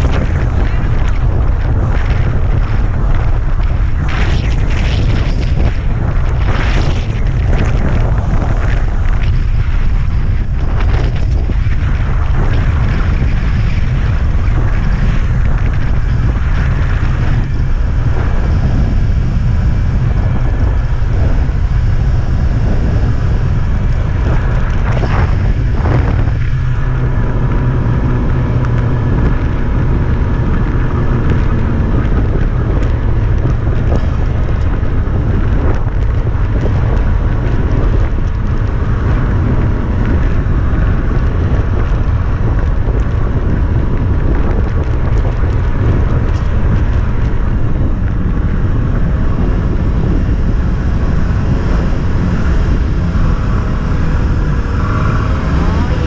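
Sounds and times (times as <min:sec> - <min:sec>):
snowmobile engine running: 0:00.0 - 0:56.0
wind buffeting microphone: 0:00.0 - 0:56.0.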